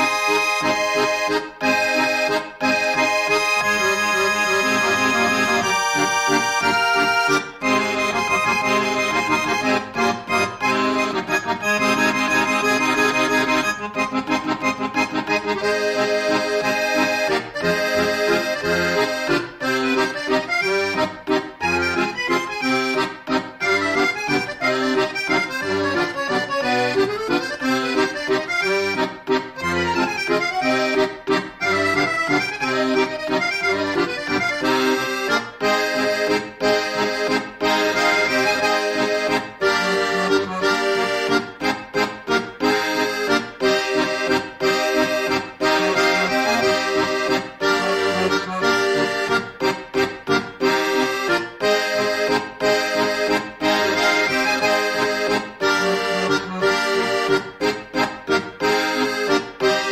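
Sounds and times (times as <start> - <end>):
instrumental background music: 0.0 - 59.9.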